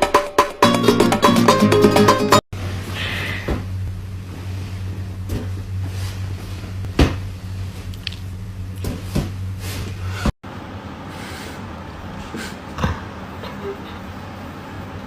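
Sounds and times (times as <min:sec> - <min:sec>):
steady low hum: 0:02.6 - 0:15.0.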